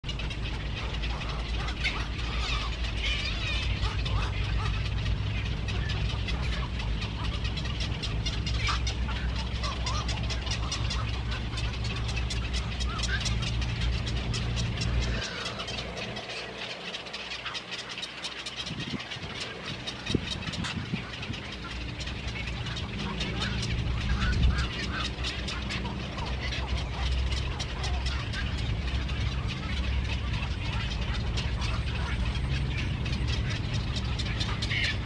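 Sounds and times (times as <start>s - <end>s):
birds calling and chattering: 0.0s - 35.0s
low mechanical hum: 0.0s - 35.0s.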